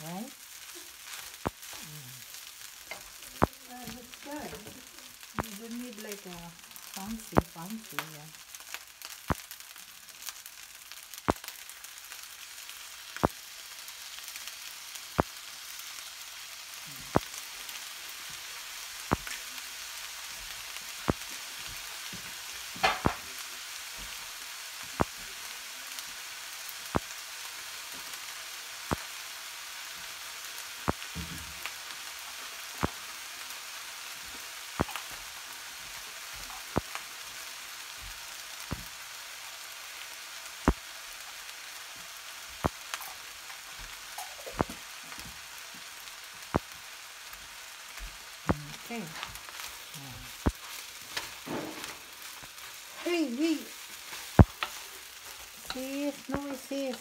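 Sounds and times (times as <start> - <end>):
crackle: 0.0 - 57.0
fried rice sizzling in a wok: 0.0 - 57.0.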